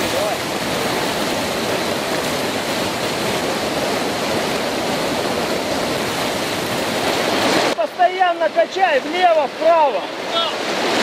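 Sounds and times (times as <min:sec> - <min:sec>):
river rapids rushing over rocks: 0:00.0 - 0:11.0.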